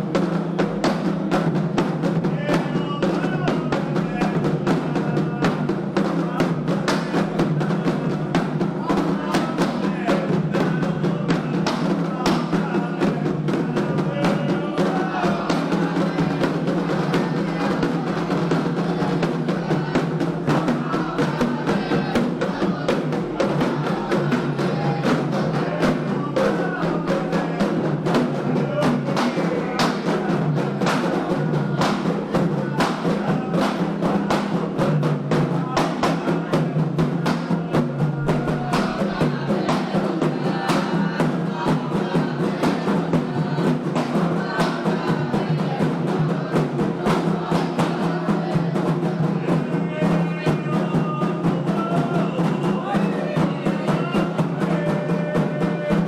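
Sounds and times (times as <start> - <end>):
group of voices chanting: 0.0 - 56.0
hand drums playing a beat: 0.0 - 56.0.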